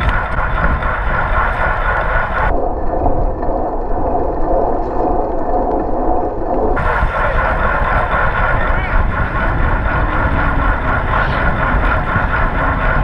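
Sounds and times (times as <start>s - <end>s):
bicycle tyres and drivetrain hum: 0.0s - 13.0s
wind buffeting microphone: 0.0s - 13.0s.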